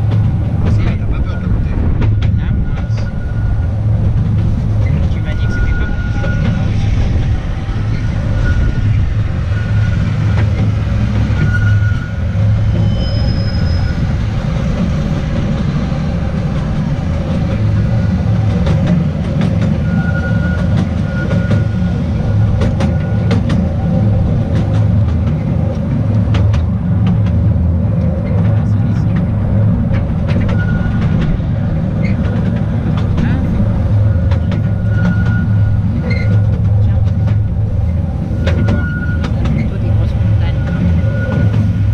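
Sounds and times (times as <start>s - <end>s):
train wheels rumbling: 0.0s - 41.9s
wheels clicking over rail joints: 0.0s - 41.9s
high wheel squeals: 0.8s - 4.0s, 4.6s - 24.9s, 30.3s - 32.6s, 33.6s - 41.9s.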